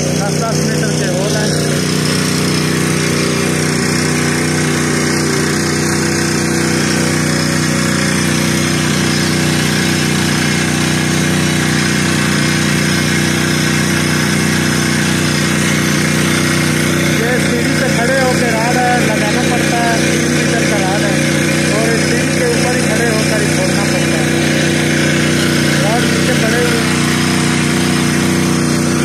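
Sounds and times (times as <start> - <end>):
rock drilling rig running: 0.0 - 29.0.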